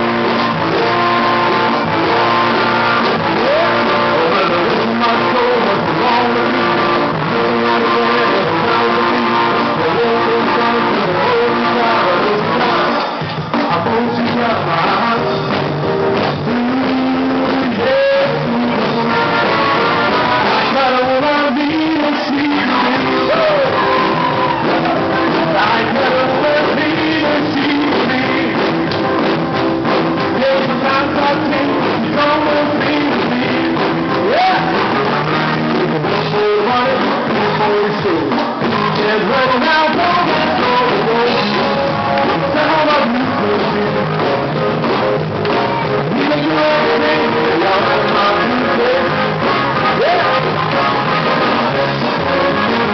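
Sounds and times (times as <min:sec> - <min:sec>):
loud dance music: 0:00.0 - 0:52.9
person singing: 0:00.0 - 0:52.9.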